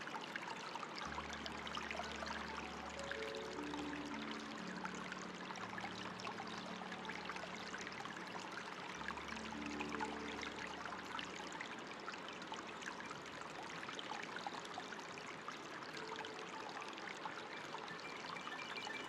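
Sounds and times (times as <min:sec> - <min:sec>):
water trickling and splashing: 0:00.0 - 0:19.0
soft music notes: 0:00.2 - 0:19.0.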